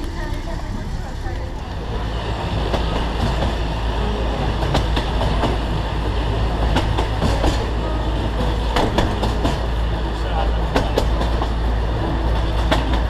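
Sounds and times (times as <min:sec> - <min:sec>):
train rumbling: 0:00.0 - 0:13.0
wheels clicking over rail joints: 0:00.0 - 0:13.0.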